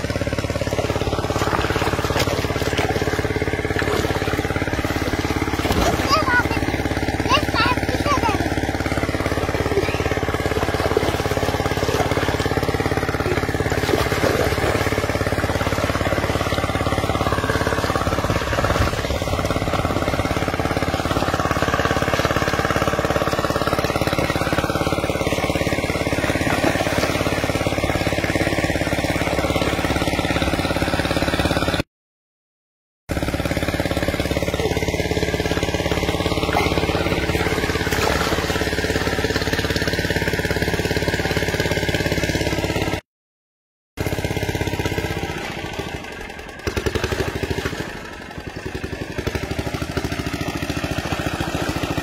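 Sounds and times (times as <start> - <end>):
engine running steadily: 0.0 - 31.8, 33.1 - 43.0, 44.0 - 52.0.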